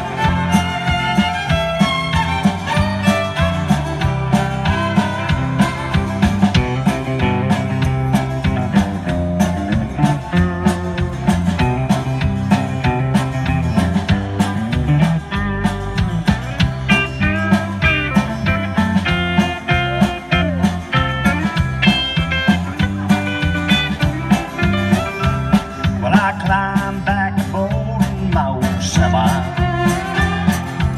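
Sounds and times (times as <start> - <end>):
country-rock band playing: 0.0 - 30.9
lead guitar melody: 0.0 - 30.9.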